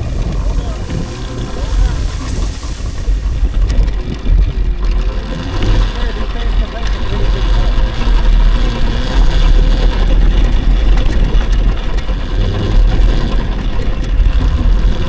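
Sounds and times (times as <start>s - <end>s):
electric motor whine: 0.0s - 15.0s
rattling bike chain: 0.0s - 15.0s
wind rumble on microphone: 0.0s - 15.0s.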